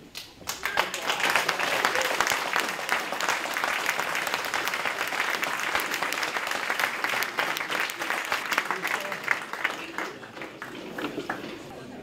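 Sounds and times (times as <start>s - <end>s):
audience applauding: 0.4s - 11.7s.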